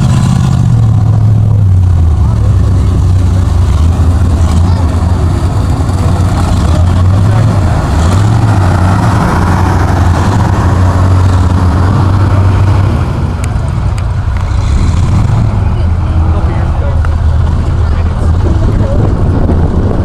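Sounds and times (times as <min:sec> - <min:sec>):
truck engine running loud: 0:00.0 - 0:20.0.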